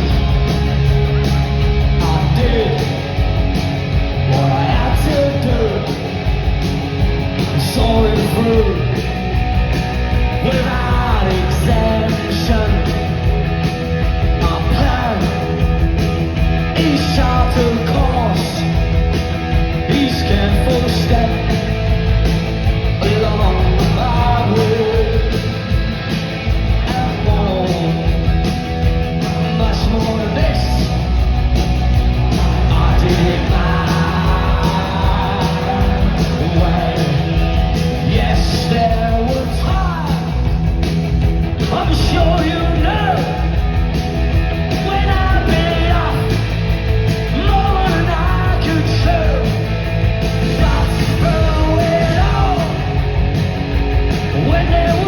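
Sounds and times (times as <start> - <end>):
live punk rock band: 0.0 - 55.0
singer shouting and singing: 1.6 - 6.5, 7.4 - 22.0, 22.7 - 25.7, 26.4 - 55.0.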